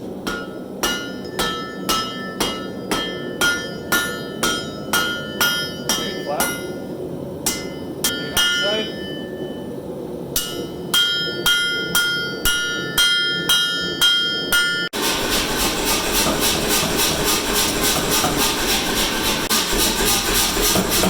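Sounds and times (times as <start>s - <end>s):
hammer striking anvil: 0.2s - 6.8s, 7.4s - 9.5s, 10.4s - 21.0s.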